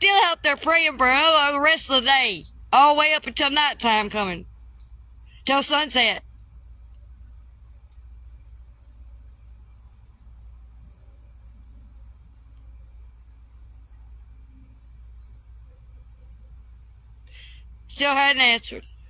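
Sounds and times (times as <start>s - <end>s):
crickets chirring: 0.0s - 19.0s
low steady hum: 0.0s - 19.0s.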